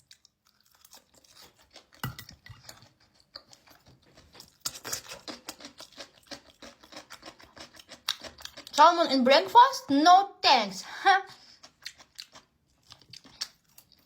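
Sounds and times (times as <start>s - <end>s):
chewing and crunching food: 0.0s - 9.1s, 11.2s - 14.0s.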